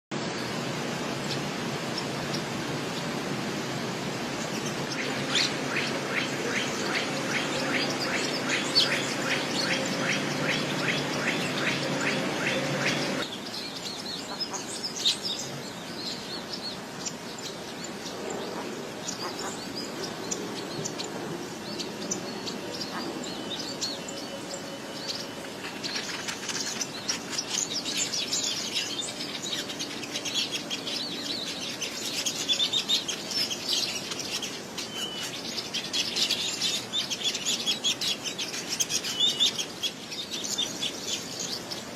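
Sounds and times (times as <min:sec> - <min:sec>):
songbird chirping and trilling: 0:04.4 - 0:41.9.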